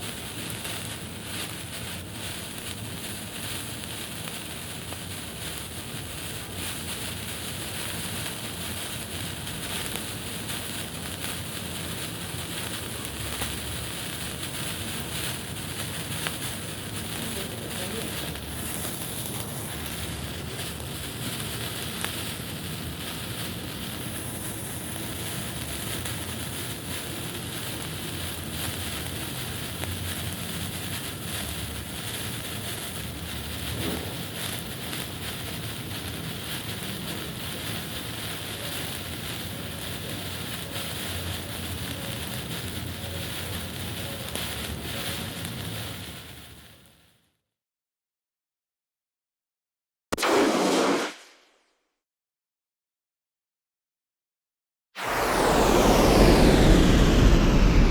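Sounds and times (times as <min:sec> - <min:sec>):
faint crackle: 0:00.0 - 0:47.2, 0:55.0 - 0:57.9
flare hissing and fizzing: 0:00.4 - 0:46.5, 0:50.2 - 0:51.4, 0:55.0 - 0:57.9.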